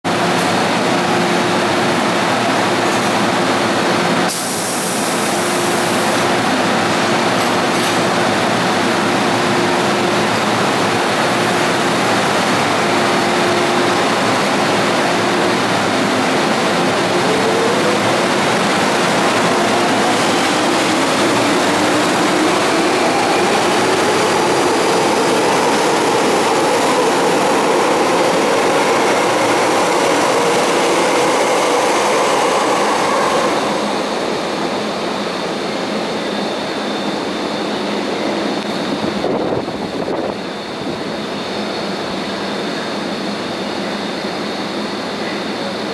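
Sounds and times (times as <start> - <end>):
train motor hum and whine: 3.5 - 45.9.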